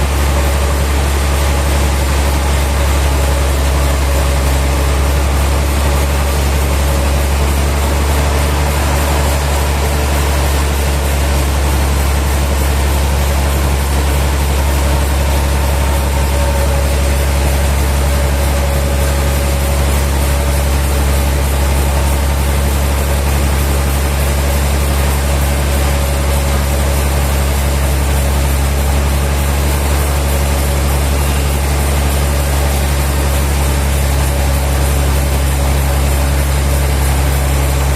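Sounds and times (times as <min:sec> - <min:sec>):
sawmill machinery humming: 0:00.0 - 0:37.9.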